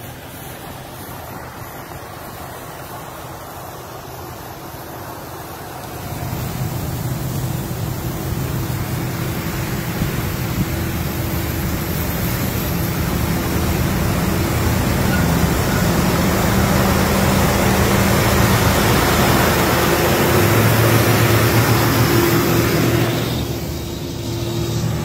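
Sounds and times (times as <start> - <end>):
low engine drone: 0.0 - 25.0
road and wind noise: 0.0 - 25.0.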